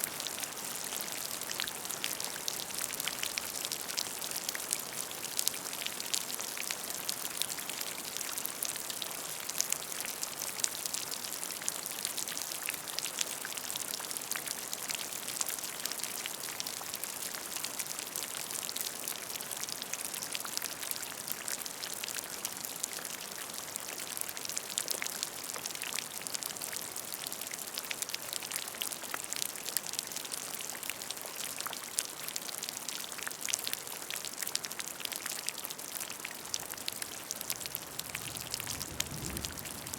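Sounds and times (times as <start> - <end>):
rain pattering on puddle: 0.0 - 39.9.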